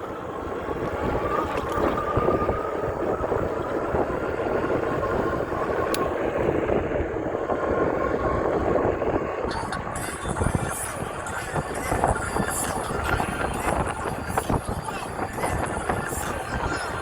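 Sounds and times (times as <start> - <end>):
faint steady whine: 0.0 - 17.0
wind buffeting microphone: 0.0 - 17.0.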